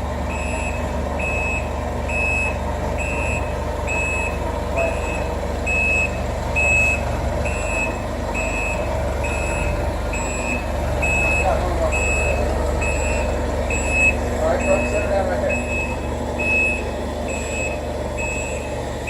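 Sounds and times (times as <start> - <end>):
forklift engine hum: 0.0 - 19.0
reversing alarm beeping: 0.2 - 19.0.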